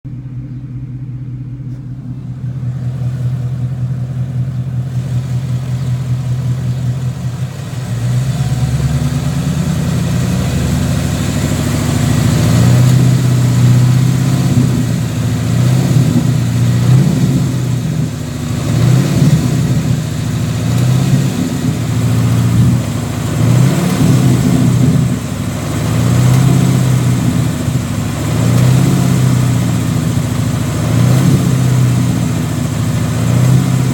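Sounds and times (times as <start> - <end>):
car engine idling and revving: 0.0 - 33.9
engine ticking: 0.0 - 33.9.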